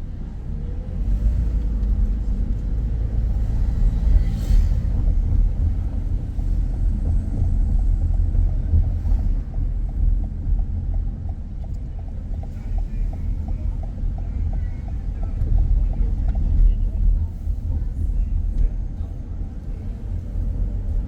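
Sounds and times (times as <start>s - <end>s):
car interior rumble: 0.0s - 21.0s.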